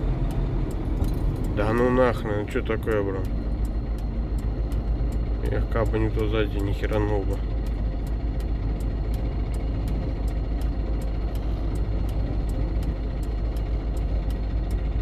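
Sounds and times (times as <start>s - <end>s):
diesel engine running: 0.0s - 15.0s
faint regular ticking: 0.0s - 15.0s
road and wind noise: 0.0s - 15.0s.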